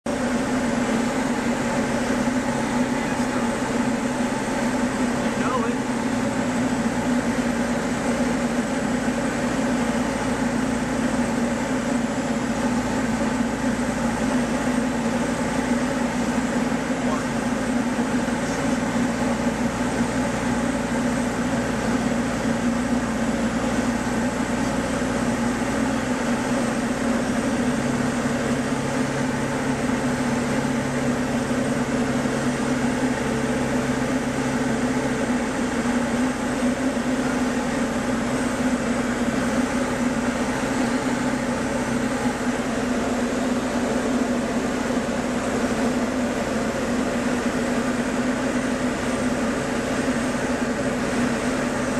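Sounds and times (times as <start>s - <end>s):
small plane engine droning: 0.0s - 51.9s.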